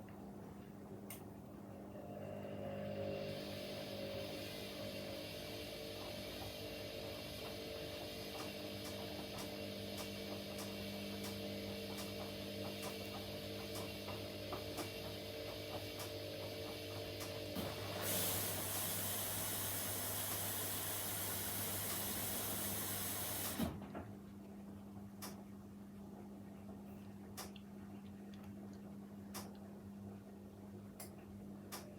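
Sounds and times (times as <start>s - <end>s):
washing machine motor hum: 0.0s - 31.9s.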